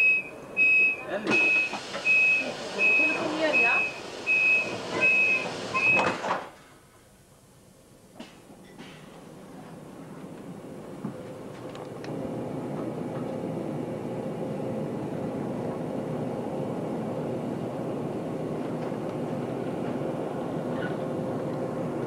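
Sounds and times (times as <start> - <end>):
trains humming and rumbling: 0.0 - 7.2, 7.9 - 22.0.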